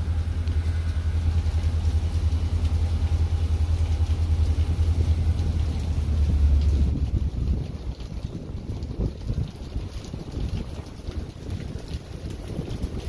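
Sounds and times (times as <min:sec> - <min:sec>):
faint hiss of rain: 0:00.0 - 0:13.0
low rumble of rainstorm: 0:00.0 - 0:13.0.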